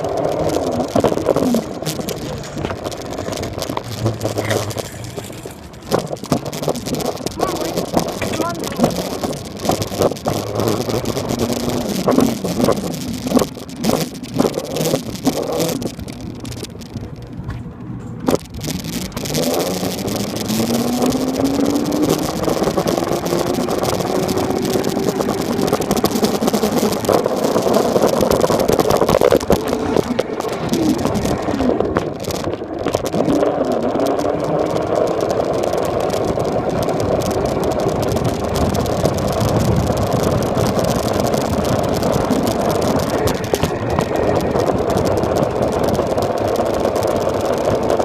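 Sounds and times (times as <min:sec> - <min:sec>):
knocks and rattles: 0:00.0 - 0:48.0.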